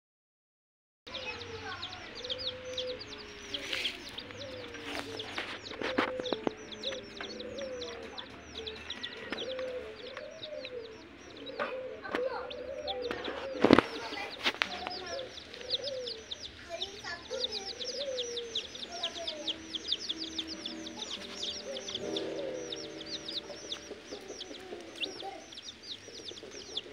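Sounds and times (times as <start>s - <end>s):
chicks peeping: 1.1s - 26.9s.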